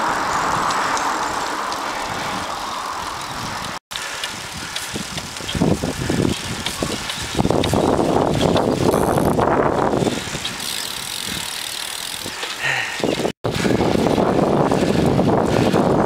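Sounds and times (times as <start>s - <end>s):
bicycle tyre and road noise: 0.0s - 16.0s
wind rushing over microphone: 0.0s - 16.0s.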